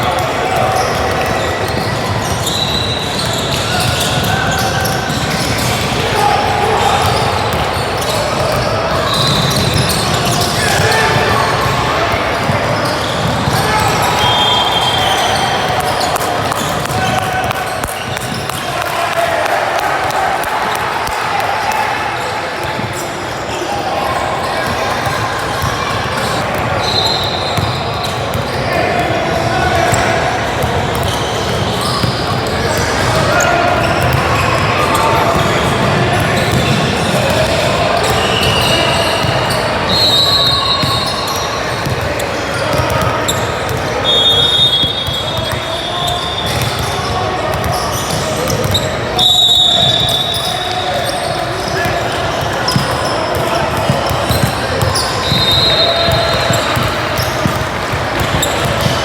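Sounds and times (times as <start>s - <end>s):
echoing voices: 0.0s - 59.0s
basketball bouncing on court: 0.2s - 6.1s, 6.8s - 21.9s, 24.1s - 59.0s.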